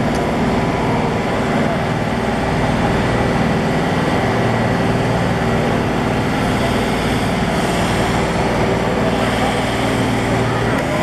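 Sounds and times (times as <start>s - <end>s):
locomotive engine running: 0.0s - 11.0s.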